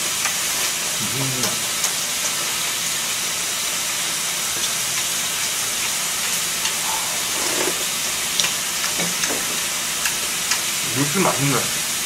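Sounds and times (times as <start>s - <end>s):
pork sizzling in a hot pan: 0.0s - 12.0s.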